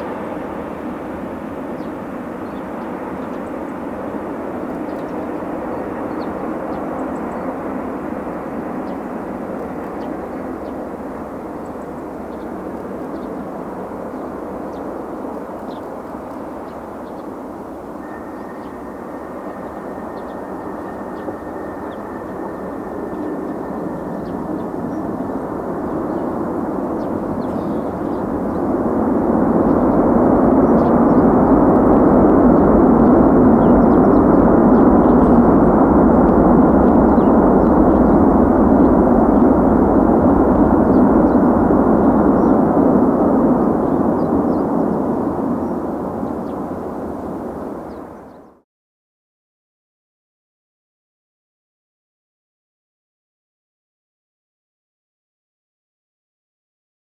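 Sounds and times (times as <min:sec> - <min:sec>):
jet engines roaring: 0:00.0 - 0:48.4
thin steady whine: 0:00.0 - 0:48.6.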